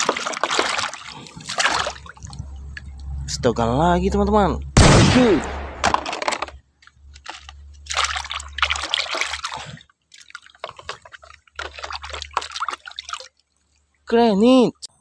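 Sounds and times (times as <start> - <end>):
water sloshing and splashing: 0.0 - 3.5, 5.7 - 14.2.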